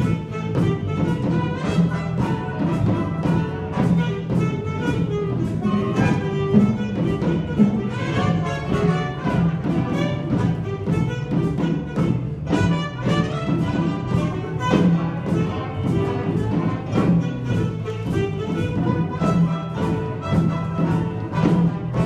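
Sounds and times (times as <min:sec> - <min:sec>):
orchestral dance music: 0:00.0 - 0:22.0.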